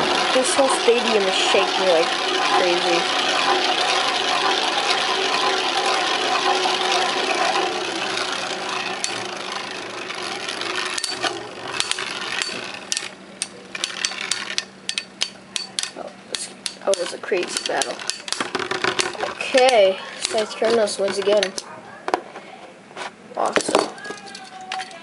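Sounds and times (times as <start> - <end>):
spinning tops clacking together: 0.0 - 21.7, 23.4 - 25.0
spinning tops rattling whir: 0.0 - 21.7, 23.4 - 25.0.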